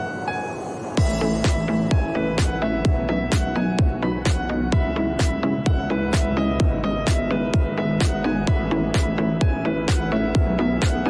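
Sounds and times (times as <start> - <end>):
electronic dance music: 0.0 - 11.0
sustained synth chords: 0.0 - 11.0
steady kick drum: 1.0 - 11.0.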